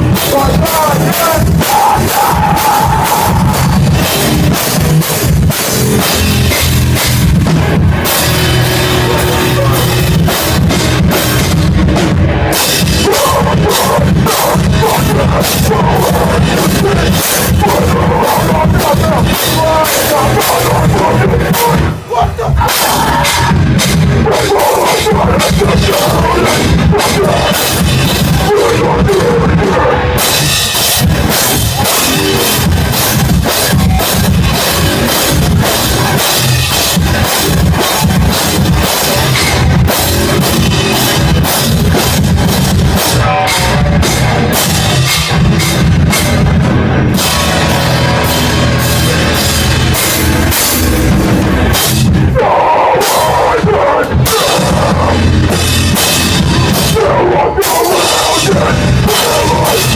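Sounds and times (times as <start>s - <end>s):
bass guitar: 0.0s - 59.9s
distorted electric guitar: 0.0s - 59.9s
drum kit: 0.0s - 59.9s.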